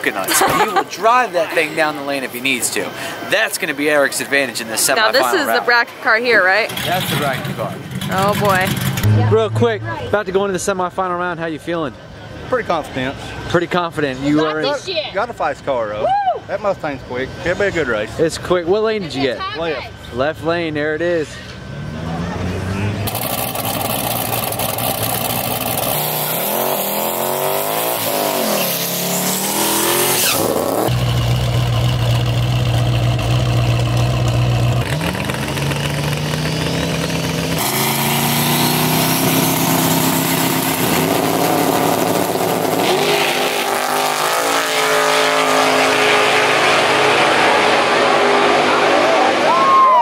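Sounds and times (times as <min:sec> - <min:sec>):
race car engines revving: 0:00.0 - 0:14.4, 0:19.9 - 0:50.0.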